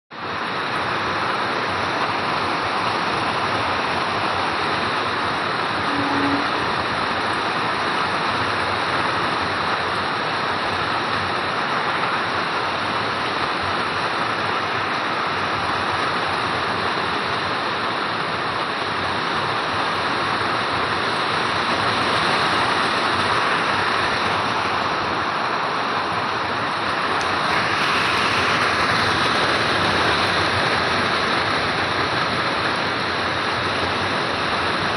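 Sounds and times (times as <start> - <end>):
heavy rain hissing: 0.2 - 34.9.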